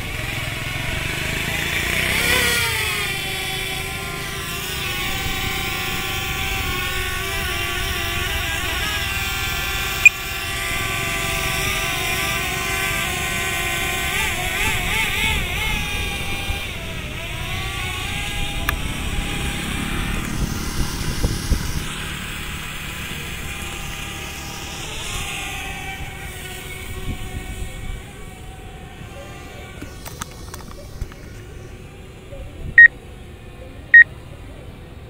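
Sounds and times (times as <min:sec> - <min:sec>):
drone propellers whining: 0:00.0 - 0:35.0.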